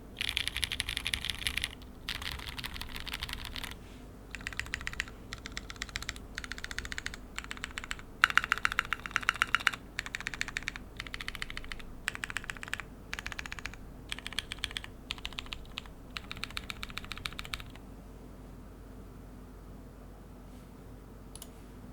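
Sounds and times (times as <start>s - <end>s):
mechanical keyboard typing: 0.2s - 17.8s.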